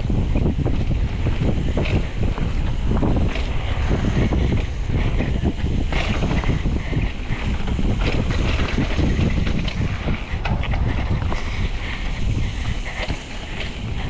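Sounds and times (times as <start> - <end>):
bike knocks and rattles: 0.0 - 14.0
bike tyres rolling on dirt: 0.0 - 14.0
wind on microphone: 0.0 - 14.0.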